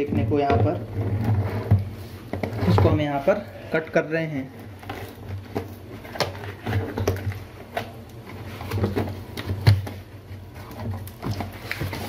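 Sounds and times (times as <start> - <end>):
cardboard scraping and rustling: 0.0 - 3.6, 4.4 - 12.0.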